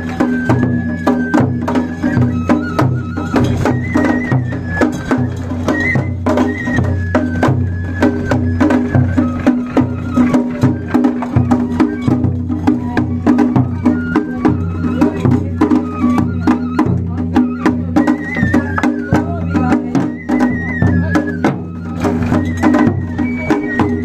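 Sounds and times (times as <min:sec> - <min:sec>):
high flute melody: 0:00.0 - 0:24.0
low drum beats: 0:00.0 - 0:24.0.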